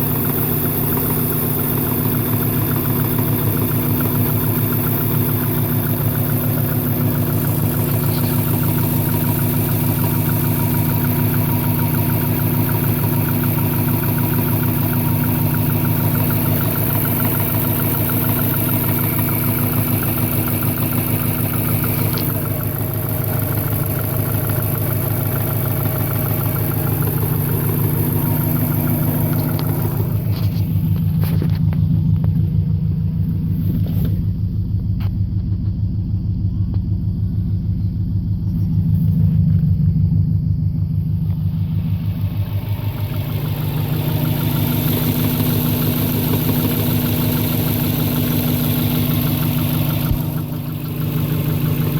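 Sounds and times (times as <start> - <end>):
car engine idling with knocking: 0.0 - 51.9.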